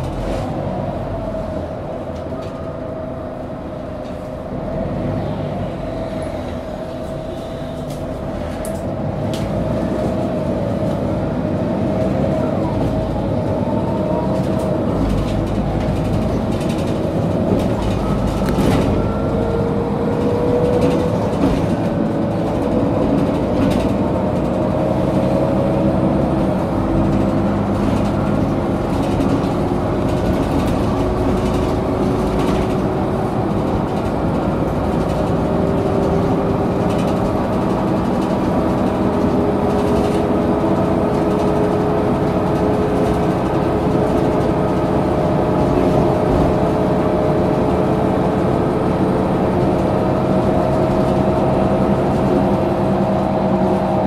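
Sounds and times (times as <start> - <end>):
bus drivetrain and road rumble: 0.0 - 54.0.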